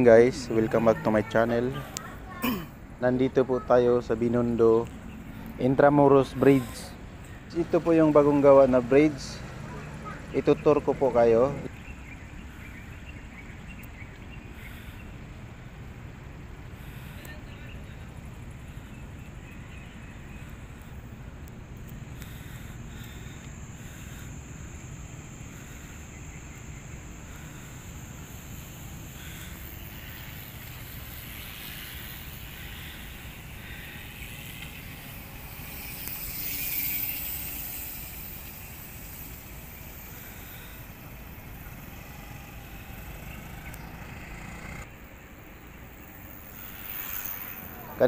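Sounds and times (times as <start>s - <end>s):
outdoor rumble with hiss: 0.0s - 48.0s.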